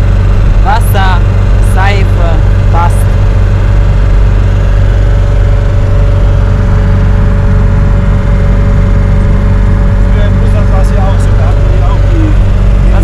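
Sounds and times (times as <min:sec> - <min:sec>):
engine and road drone: 0:00.0 - 0:13.0.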